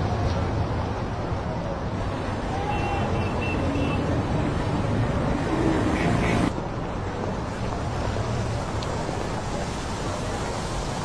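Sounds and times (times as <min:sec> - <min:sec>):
crowd noise: 0:00.0 - 0:11.0
traffic: 0:00.0 - 0:11.0.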